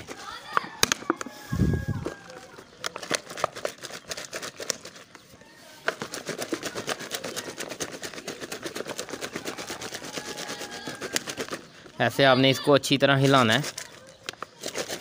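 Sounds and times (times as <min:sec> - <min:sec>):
contents rattling in plastic bottle: 0:01.8 - 0:12.2, 0:13.1 - 0:15.0.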